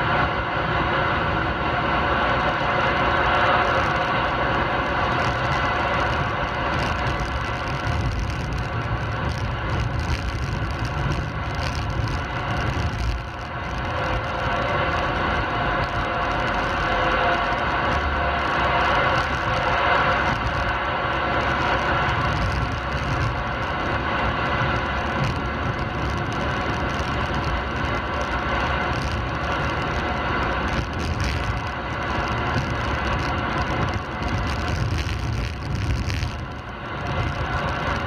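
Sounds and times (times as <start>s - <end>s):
tyre and road noise: 0.0s - 38.0s
cb radio static hiss: 3.6s - 38.0s.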